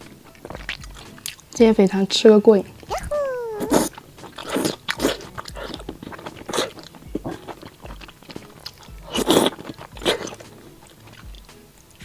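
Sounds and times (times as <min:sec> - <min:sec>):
wet chewing and sucking: 0:00.0 - 0:01.6, 0:02.6 - 0:11.6
mouth smacks and clicks: 0:00.3 - 0:01.6, 0:02.8 - 0:11.6.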